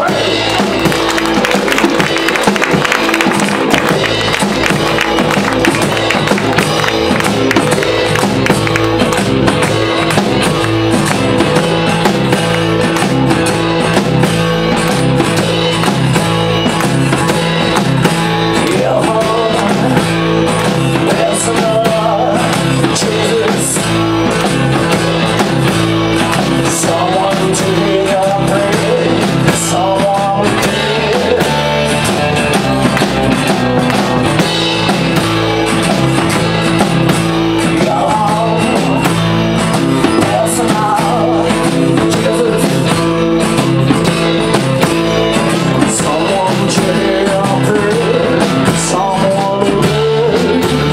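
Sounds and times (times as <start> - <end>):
drum kit: 0.0 - 50.9
electric guitar: 0.0 - 50.9
walking bass line: 0.0 - 50.9.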